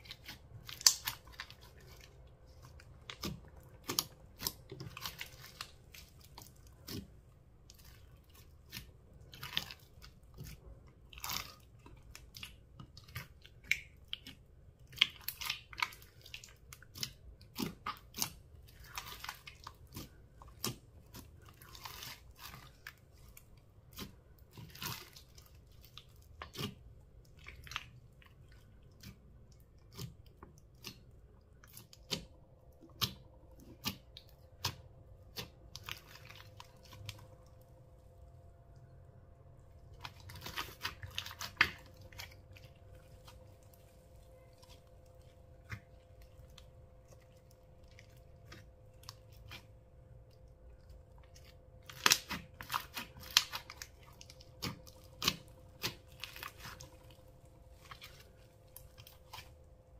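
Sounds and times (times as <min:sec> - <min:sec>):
slime squishing and crackling: 0:00.0 - 0:59.9.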